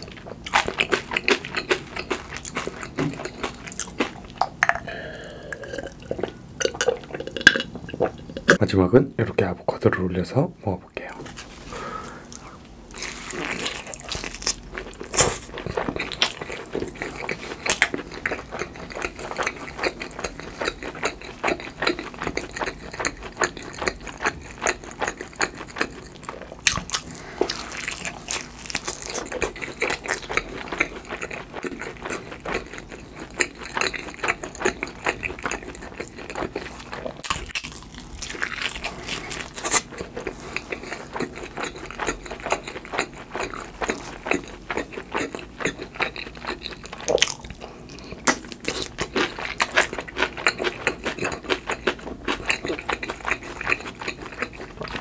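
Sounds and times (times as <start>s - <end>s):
crunchy biting and chewing: 0.0s - 4.5s, 12.2s - 55.0s.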